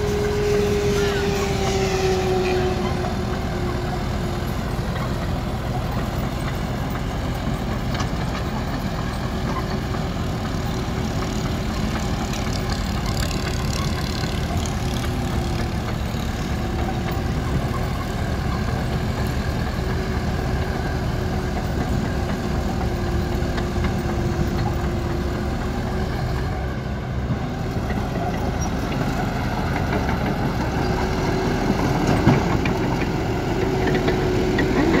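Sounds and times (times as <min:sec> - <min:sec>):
diesel engines under load: 0:00.0 - 0:35.0.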